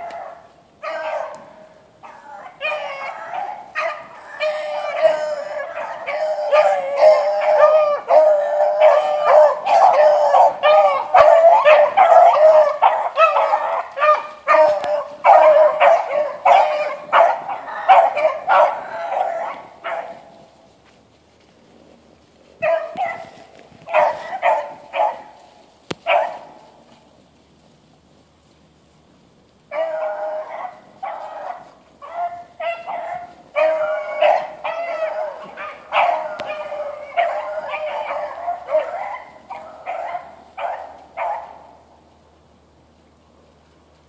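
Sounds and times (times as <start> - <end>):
beagles baying: 0.0 - 20.6, 22.6 - 27.1, 29.7 - 42.0.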